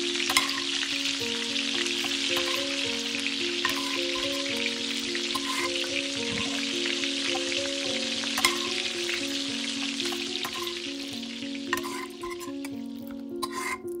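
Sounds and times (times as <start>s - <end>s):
food sizzling in hot oil: 0.0s - 14.0s
slow background music: 0.0s - 14.0s.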